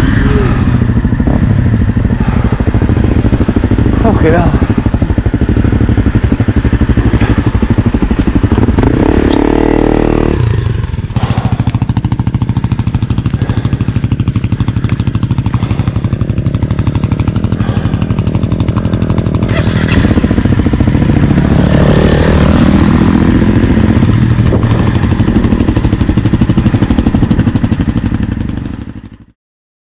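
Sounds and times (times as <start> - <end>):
motorcycle engine revving under load: 0.0 - 29.4.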